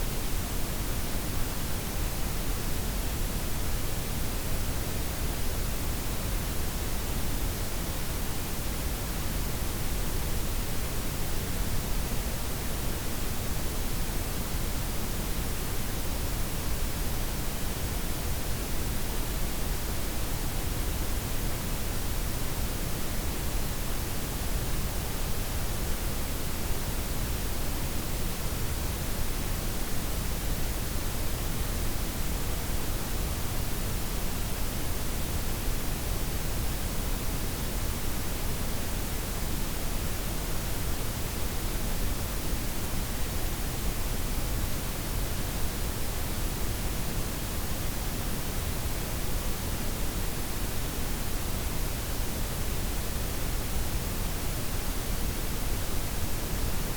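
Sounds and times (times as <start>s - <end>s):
steady synthetic noise hiss: 0.0s - 56.9s.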